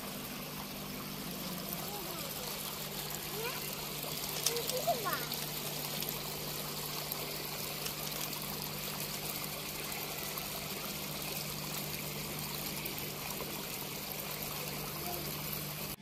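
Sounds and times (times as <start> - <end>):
low steady hum: 0.0 - 16.0
running water trickling: 0.0 - 16.0.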